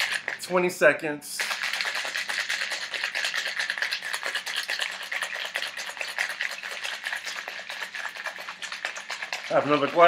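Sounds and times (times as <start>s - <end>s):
ice rattling in a cocktail shaker: 0.0s - 0.8s, 1.4s - 10.0s.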